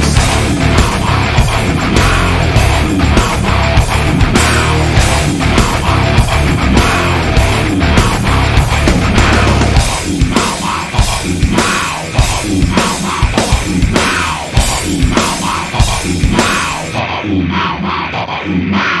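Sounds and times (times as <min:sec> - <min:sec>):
drum kit beat: 0:00.0 - 0:17.1
rock music: 0:00.0 - 0:19.0.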